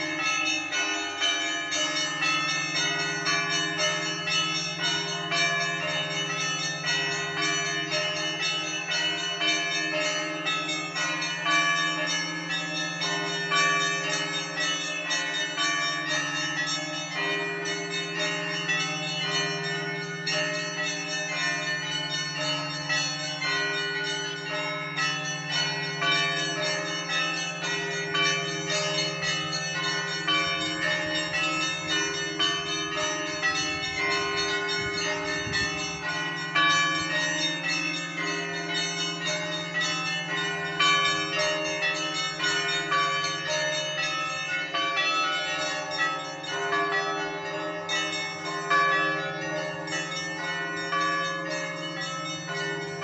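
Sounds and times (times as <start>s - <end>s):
large bell humming: 0.0s - 53.0s
mid-sized bells ringing: 0.0s - 53.0s
rapid peal of small bells: 0.0s - 53.0s.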